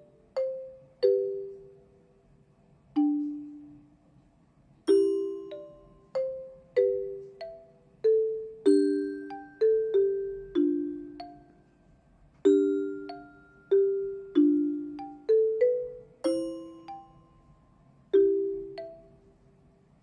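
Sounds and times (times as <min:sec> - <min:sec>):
gentle bell-like melody: 0:00.0 - 0:04.2, 0:04.9 - 0:19.8.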